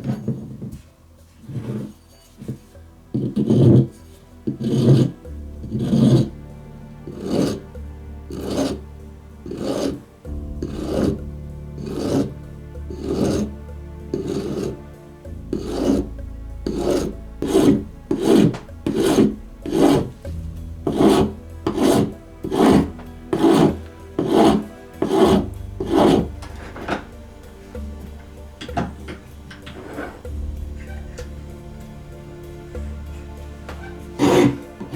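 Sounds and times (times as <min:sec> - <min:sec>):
rasping scrape on rubber mallet: 0:01.4 - 0:34.9.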